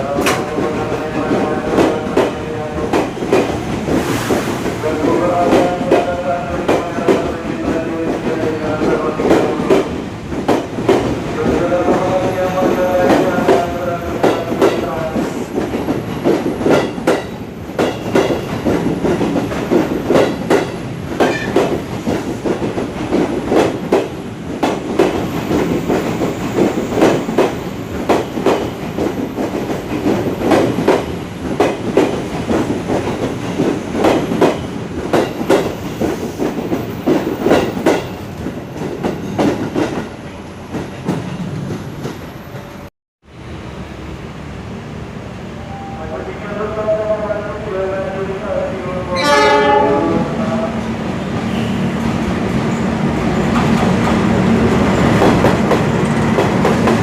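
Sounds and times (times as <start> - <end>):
train wheels clattering on rails: 0.0 - 42.9, 51.4 - 57.0.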